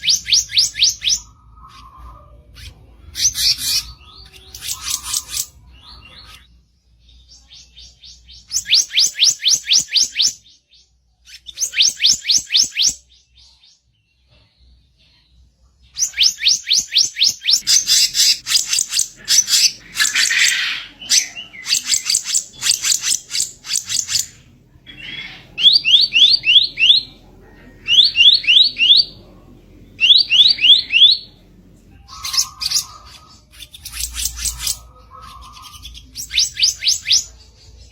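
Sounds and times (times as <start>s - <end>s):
bird harsh song: 0.0s - 37.9s.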